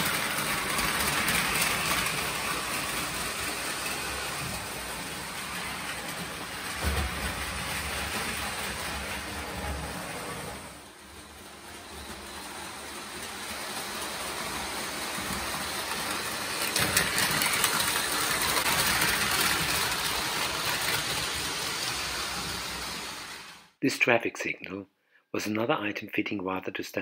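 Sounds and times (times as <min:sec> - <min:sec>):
toy train whirring clatter: 0:00.0 - 0:23.8.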